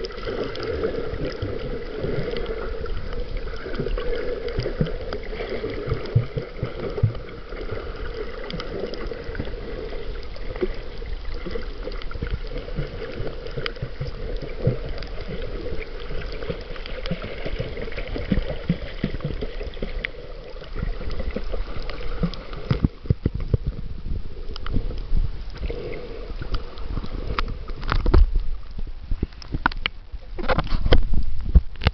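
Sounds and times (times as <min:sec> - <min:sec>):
water splashing: 0:00.0 - 0:31.0
muffled underwater water noise: 0:00.0 - 0:31.9.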